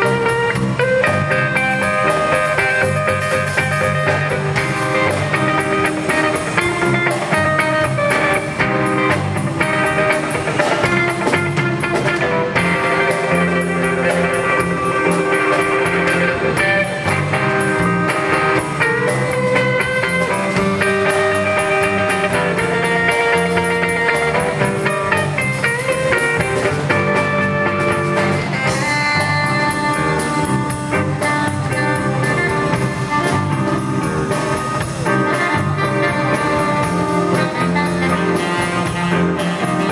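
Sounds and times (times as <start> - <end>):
band playing instrumental: 0.0 - 39.9
electric guitar lead lines: 0.0 - 39.9.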